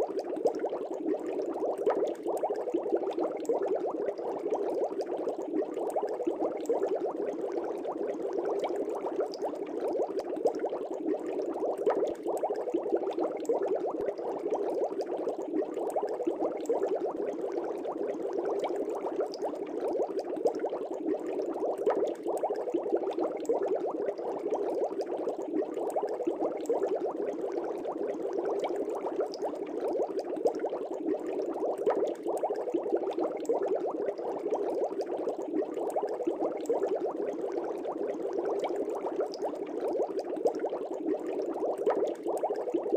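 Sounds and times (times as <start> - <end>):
fish tank air bubbles popping: 0.0 - 42.9.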